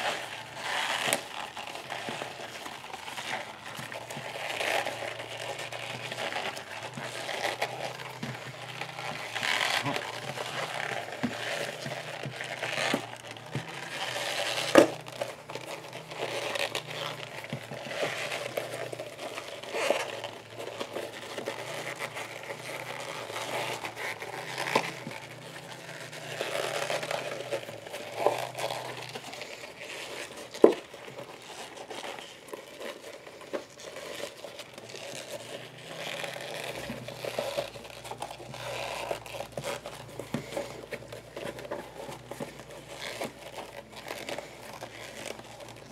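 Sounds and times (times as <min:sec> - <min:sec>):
leather crinkling and rustling: 0:00.0 - 0:45.9.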